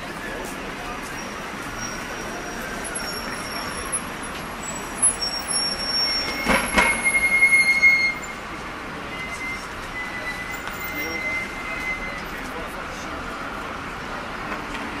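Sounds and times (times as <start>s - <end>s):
city street noise: 0.0s - 15.0s
high-pitched squeals: 0.1s - 12.8s.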